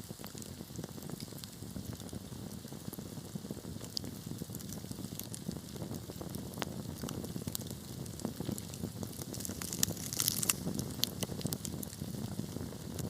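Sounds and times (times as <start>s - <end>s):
fire crackling and popping: 0.0s - 13.0s
fire hiss: 0.0s - 13.0s
flames rumbling: 0.0s - 13.0s.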